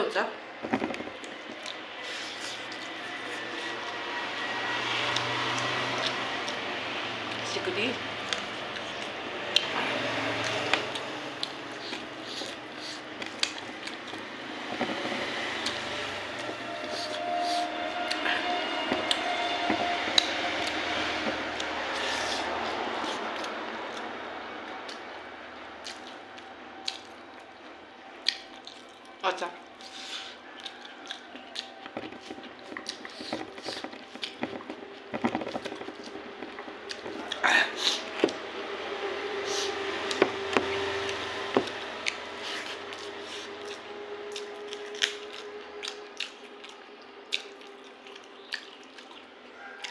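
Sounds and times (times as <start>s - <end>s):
person chewing food: 0.5s - 7.4s, 8.0s - 49.9s.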